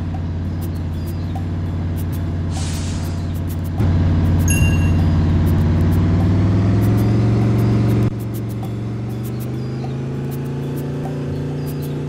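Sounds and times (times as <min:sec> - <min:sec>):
bus engine pulling under load: 0:00.0 - 0:12.0.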